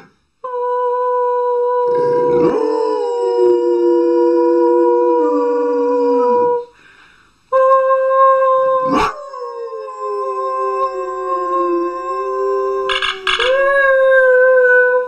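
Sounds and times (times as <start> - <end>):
dog howling: 0.5 - 6.7, 7.6 - 15.0.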